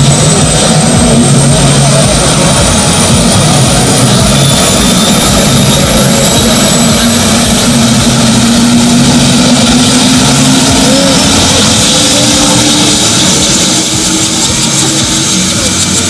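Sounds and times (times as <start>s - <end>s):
helicopter turbine whining: 0.0s - 16.0s.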